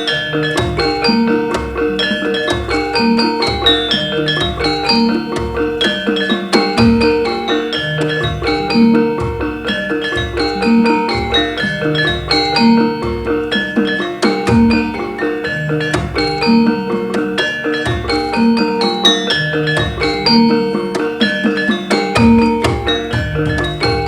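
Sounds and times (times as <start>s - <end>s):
ringing metallophone notes: 0.0s - 24.0s.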